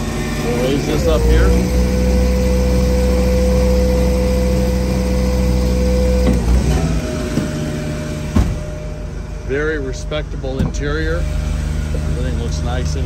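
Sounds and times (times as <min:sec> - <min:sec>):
hydraulic whine: 0:00.0 - 0:13.0
truck engine running: 0:00.0 - 0:13.0.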